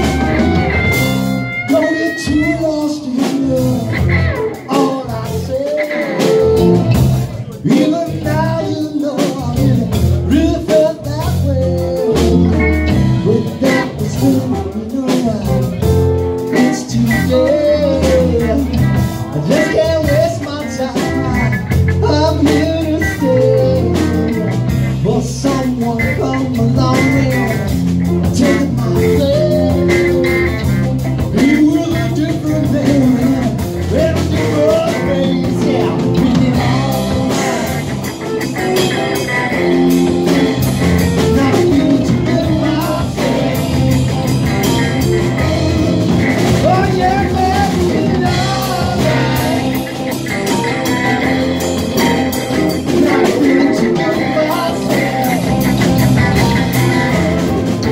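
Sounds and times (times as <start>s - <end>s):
man singing lead: 0.0s - 57.9s
rock band playing: 0.0s - 57.9s.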